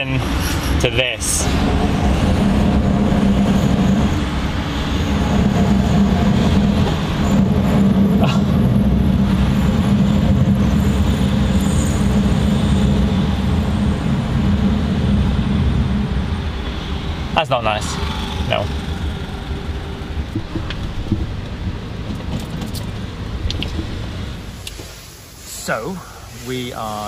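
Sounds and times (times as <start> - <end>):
road and engine noise: 0.0 - 27.0
brakes grinding: 0.2 - 26.9.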